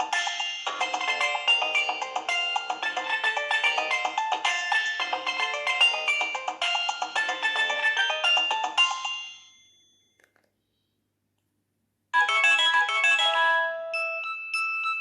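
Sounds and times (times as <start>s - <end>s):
polyphonic ringtone melody: 0.0s - 10.0s, 12.2s - 15.0s.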